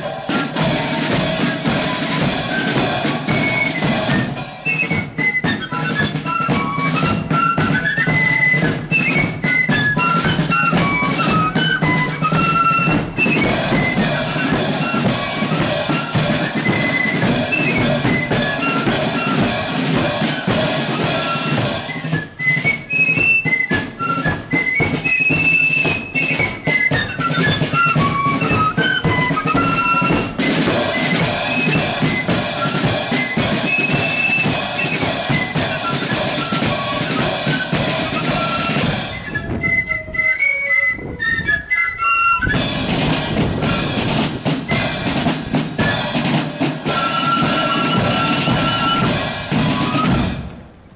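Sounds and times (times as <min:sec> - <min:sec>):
side drums and cymbal: 0:00.0 - 0:39.3, 0:42.6 - 0:50.6
flute band playing: 0:00.0 - 0:50.9.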